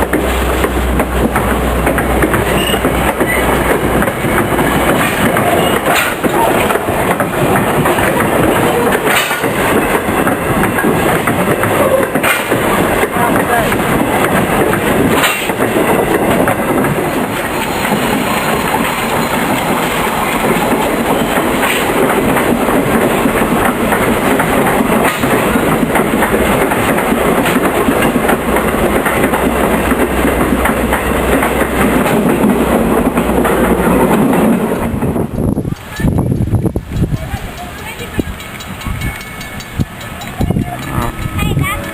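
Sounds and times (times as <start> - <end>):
train rumble: 0.0 - 41.9
train wheels clacking: 0.0 - 41.9.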